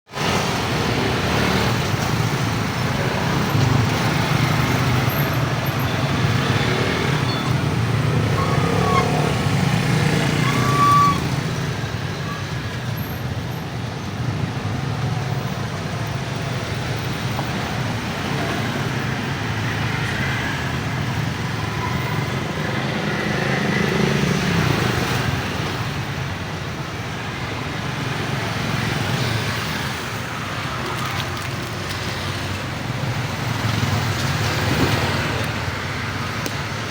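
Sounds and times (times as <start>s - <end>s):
traffic going by: 0.1s - 36.9s.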